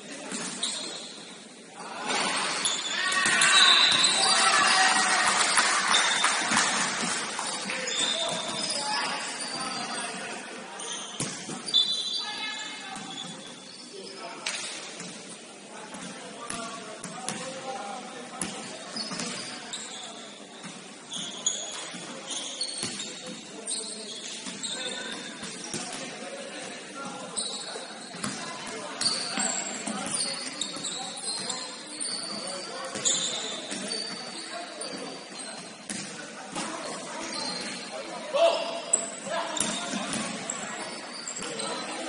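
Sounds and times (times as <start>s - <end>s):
voices of players and spectators: 0.0s - 42.0s
sneakers squeaking on court: 0.2s - 1.5s, 2.5s - 4.7s, 7.4s - 15.2s, 18.4s - 38.1s, 38.7s - 42.0s.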